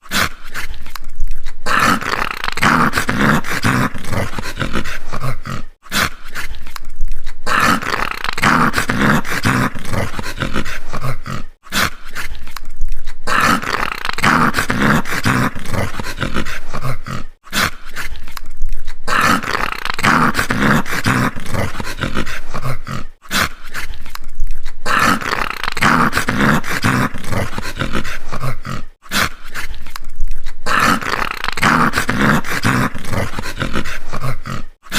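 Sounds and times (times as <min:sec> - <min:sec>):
dog growling and snarling: 0:00.0 - 0:34.9.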